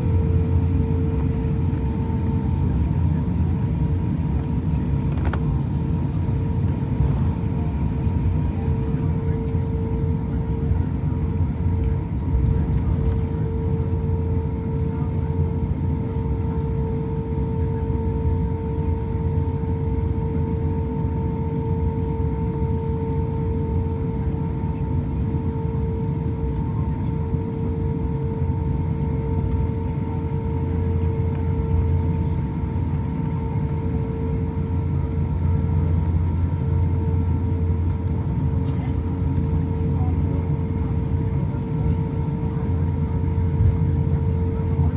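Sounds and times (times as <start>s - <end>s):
airliner engine rumble: 0.0s - 44.9s.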